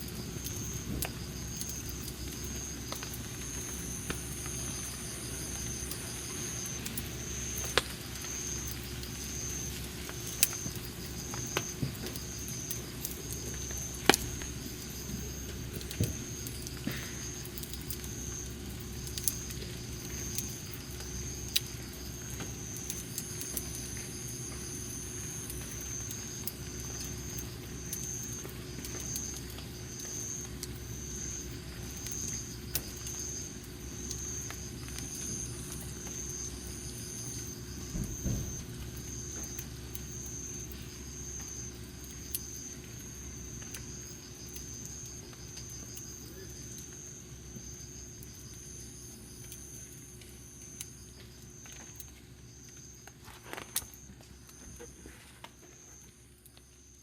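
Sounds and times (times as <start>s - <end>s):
sharp pops of fire: 0.0s - 48.4s
campfire wood crackling: 0.0s - 57.0s
high-pitched insect chirr: 0.0s - 57.0s.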